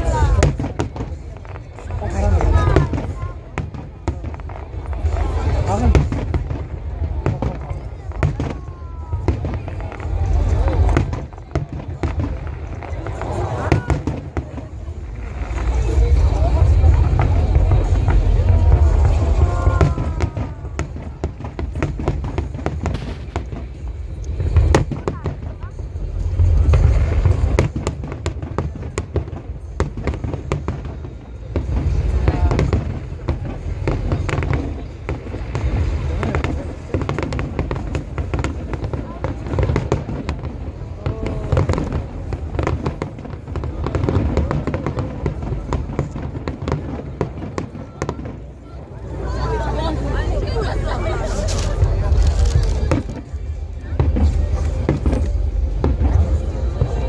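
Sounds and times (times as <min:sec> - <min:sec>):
fireworks crackling pops: 0:00.0 - 0:49.2, 0:50.9 - 0:57.0.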